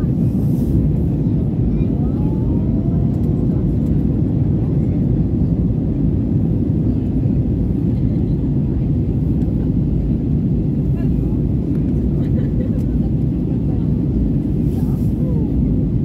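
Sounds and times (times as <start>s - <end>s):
airliner engine rumble: 0.0s - 16.0s.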